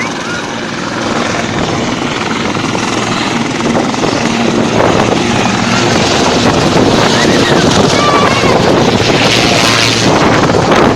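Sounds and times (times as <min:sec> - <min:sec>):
helicopter turbine and rotor: 0:00.0 - 0:10.9.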